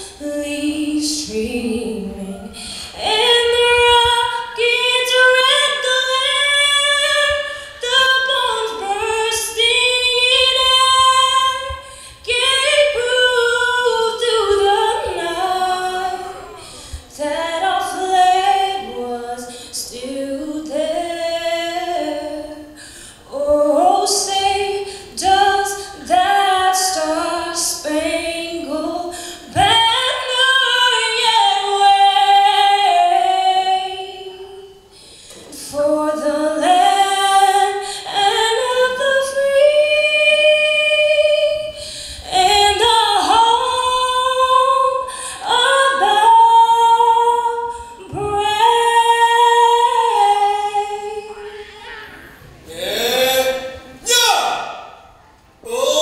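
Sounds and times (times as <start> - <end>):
woman singing unaccompanied: 0.0 - 34.9, 35.5 - 51.8.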